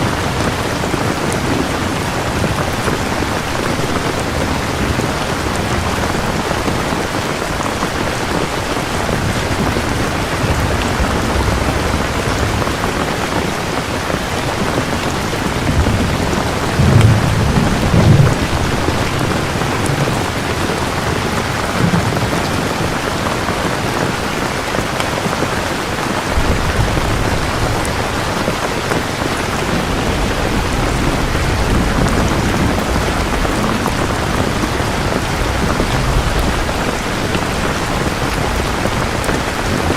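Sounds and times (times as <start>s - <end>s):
heavy rain falling: 0.0s - 39.9s
rolling thunder rumbling: 0.0s - 39.9s.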